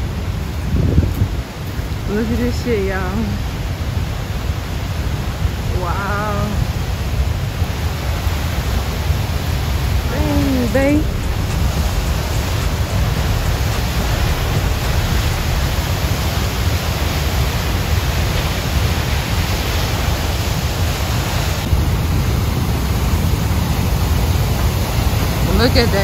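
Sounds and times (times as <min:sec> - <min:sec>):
whitewater rushing: 0:00.0 - 0:26.0.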